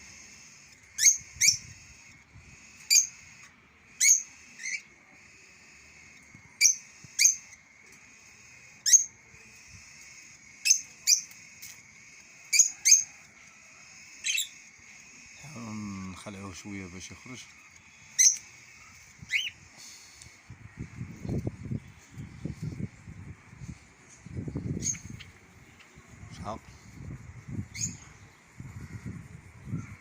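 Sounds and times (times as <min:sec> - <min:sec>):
bird chirping: 0:00.0 - 0:30.0
high-pitched background hum: 0:00.0 - 0:30.0.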